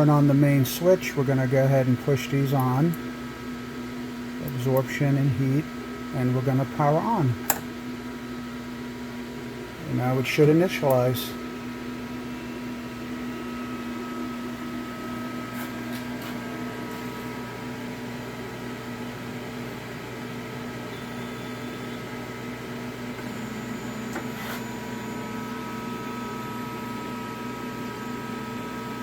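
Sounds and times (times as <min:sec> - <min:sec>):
printer fan hum: 0:00.0 - 0:29.0.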